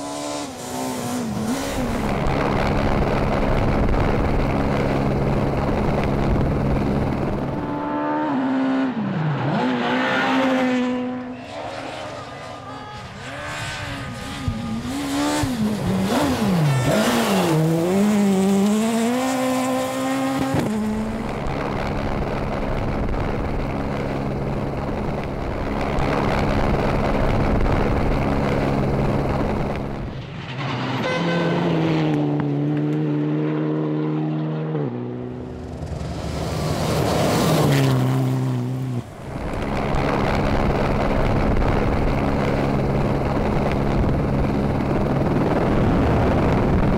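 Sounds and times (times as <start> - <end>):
rally car engines revving high: 0.0 - 46.9.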